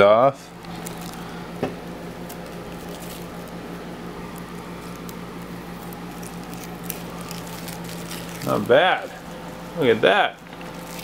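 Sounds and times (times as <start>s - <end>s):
steady low hum: 0.0s - 11.0s
plastic film crackling: 0.6s - 11.0s.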